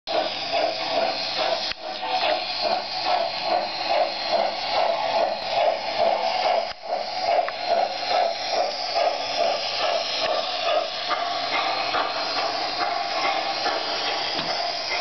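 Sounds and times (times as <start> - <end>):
model train steam chuffs: 0.1 - 15.0.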